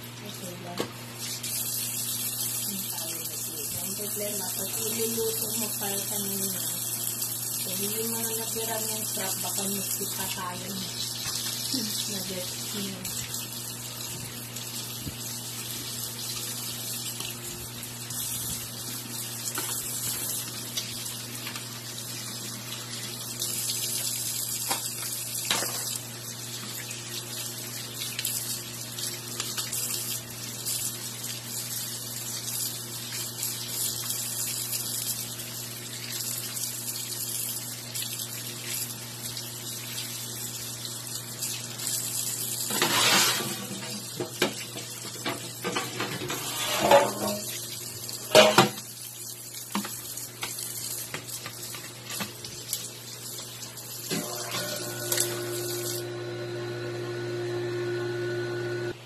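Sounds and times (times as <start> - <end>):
tap water running into a sink: 0.2 - 57.3.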